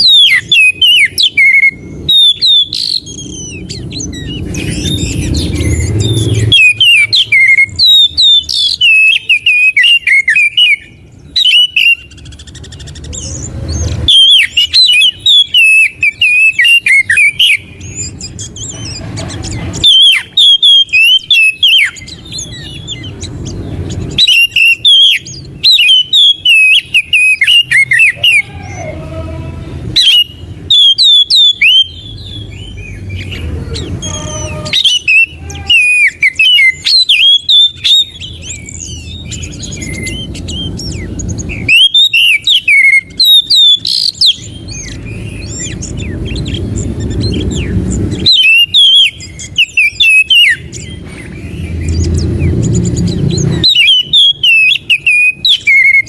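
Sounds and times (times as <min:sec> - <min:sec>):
low rumbling background noise: 0:00.0 - 0:56.0
songbird whistling and chirping: 0:00.0 - 0:56.0.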